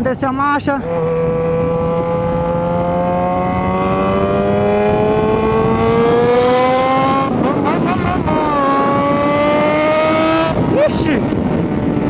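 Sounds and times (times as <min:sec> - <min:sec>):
motorcycle engine revving: 0:00.8 - 0:12.0.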